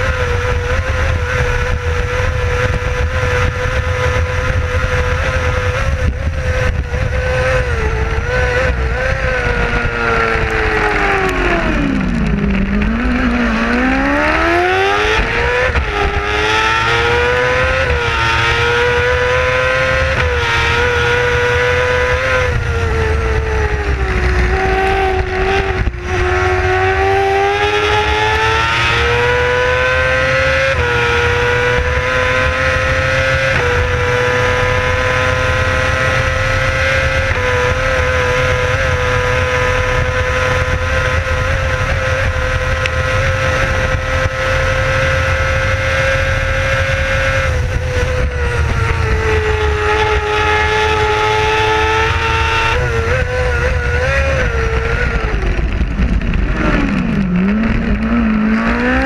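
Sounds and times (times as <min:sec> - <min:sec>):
racing sidecar engine revving: 0:00.0 - 0:59.0
wind on microphone: 0:00.0 - 0:59.0.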